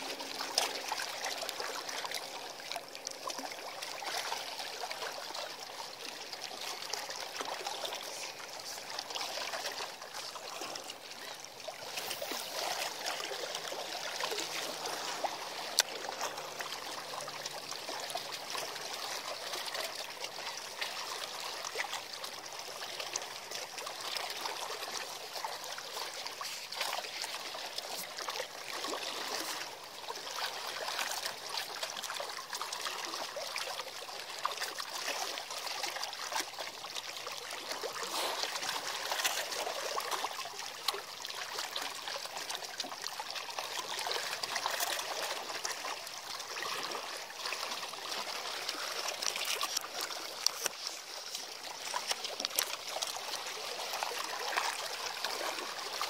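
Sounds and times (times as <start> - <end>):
seawater lapping and trickling: 0.0 - 56.0.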